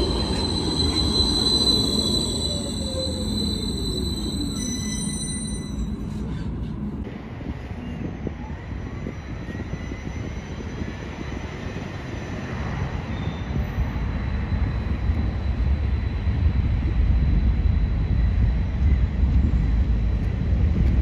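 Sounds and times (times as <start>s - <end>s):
tram motor whine: 0.0s - 21.0s
tram rumble on track: 0.0s - 21.0s.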